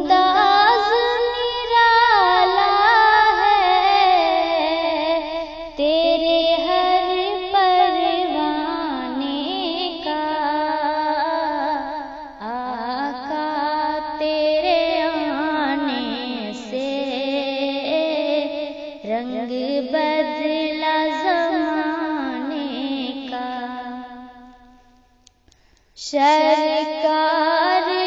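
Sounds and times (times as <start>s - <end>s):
woman singing devotional song: 0.0s - 28.0s.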